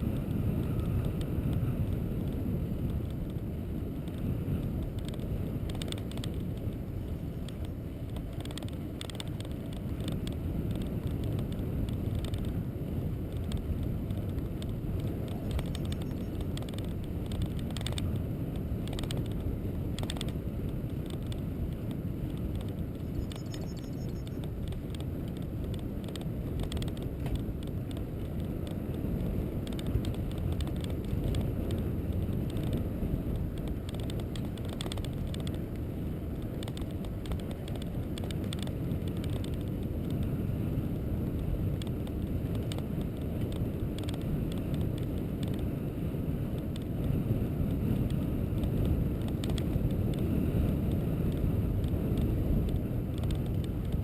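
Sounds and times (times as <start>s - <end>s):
tyres and wind rumbling: 0.0s - 54.0s.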